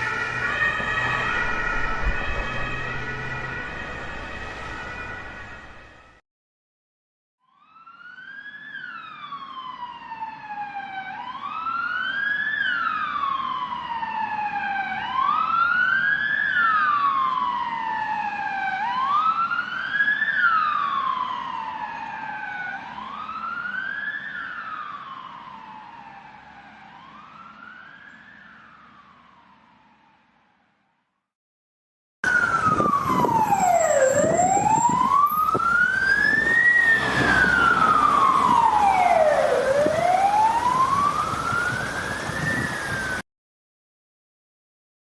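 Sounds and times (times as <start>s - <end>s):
ambulance siren wailing: 0.0s - 6.2s, 7.5s - 30.0s, 32.2s - 43.2s
low road noise: 0.0s - 6.2s, 7.7s - 30.9s, 32.2s - 43.2s.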